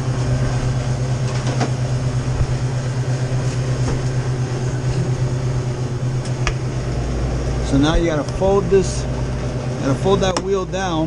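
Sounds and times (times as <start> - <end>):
refrigeration equipment humming: 0.0 - 11.0.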